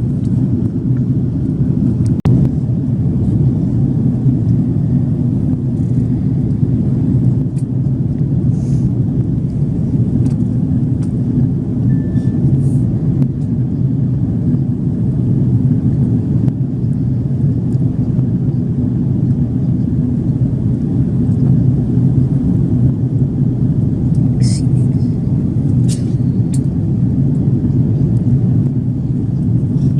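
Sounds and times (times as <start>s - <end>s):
airliner cabin engine rumble: 0.0s - 29.9s.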